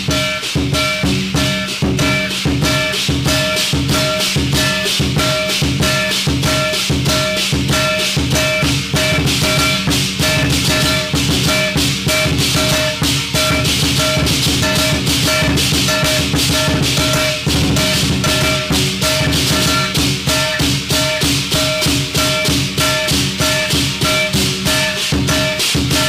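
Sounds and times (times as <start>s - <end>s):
cymbals clashing: 0.0s - 26.0s
hand gong struck: 0.0s - 26.0s
large drum beaten rapidly: 0.0s - 26.0s.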